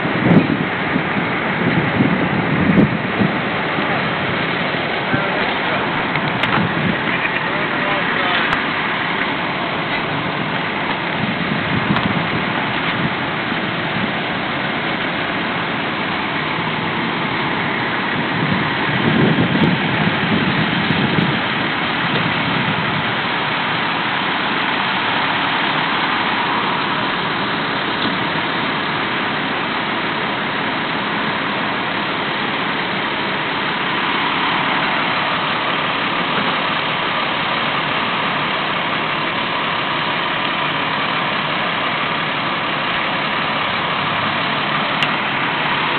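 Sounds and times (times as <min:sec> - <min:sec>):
loud low rumble: 0:00.0 - 0:45.9
street noise: 0:00.0 - 0:45.9
vehicle engines idling: 0:00.0 - 0:45.9.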